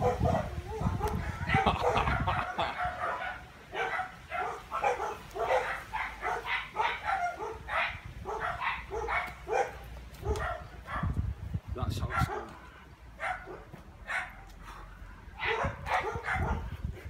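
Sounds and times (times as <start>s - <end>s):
dog barking rapidly: 0.0s - 11.2s, 12.0s - 12.6s, 13.2s - 14.4s, 15.4s - 17.0s.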